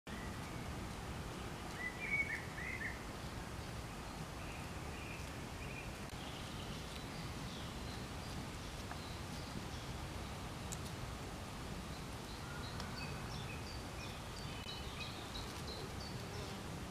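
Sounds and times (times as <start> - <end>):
bird chirping: 0.1 - 10.9, 11.9 - 16.6
outdoor background noise: 0.1 - 16.9.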